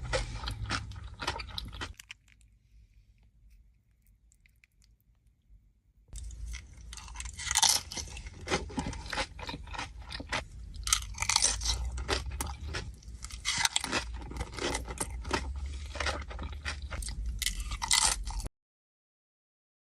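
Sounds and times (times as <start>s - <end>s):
chewing crunchy chips: 0.0s - 5.4s, 6.1s - 18.5s.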